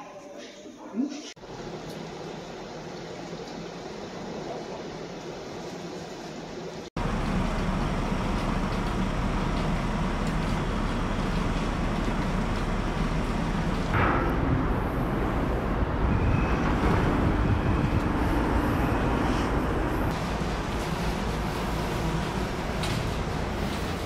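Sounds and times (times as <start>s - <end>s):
rumble and hiss of machinery: 1.5s - 24.0s.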